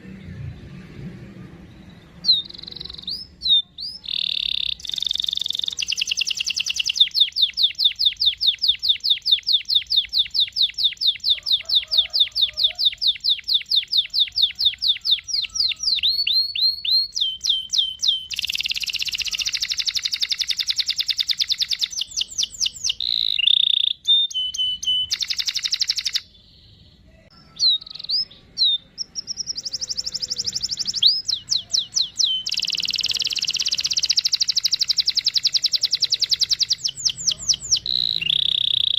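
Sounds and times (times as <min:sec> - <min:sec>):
canary singing trills: 0:01.5 - 0:38.9.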